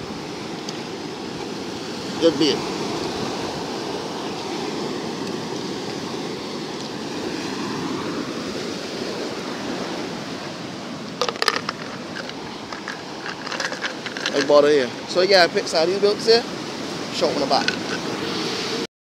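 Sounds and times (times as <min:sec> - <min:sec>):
waves washing over rocks: 0:00.0 - 0:18.8.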